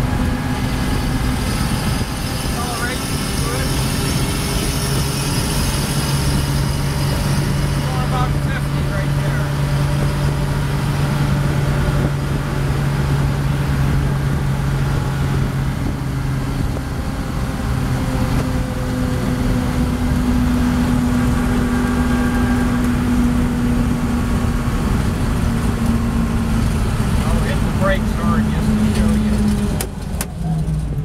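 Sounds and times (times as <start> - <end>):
road noise: 0.0 - 31.0
truck engine running: 0.0 - 31.0.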